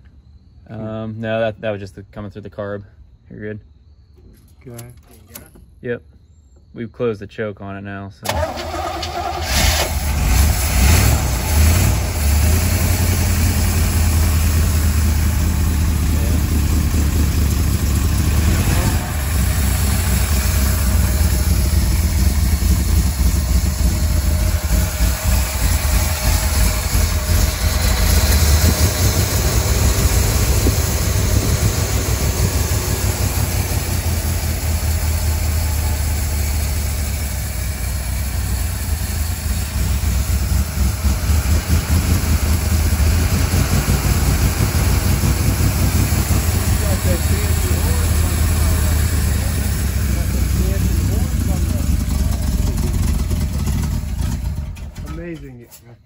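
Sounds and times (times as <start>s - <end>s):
car engine idling: 8.2s - 55.8s.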